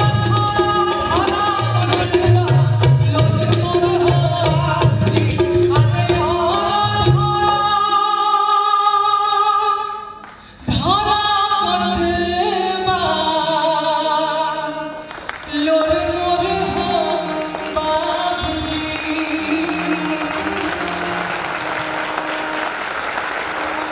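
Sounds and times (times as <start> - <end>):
woman singing with vibrato: 0.0 - 23.9.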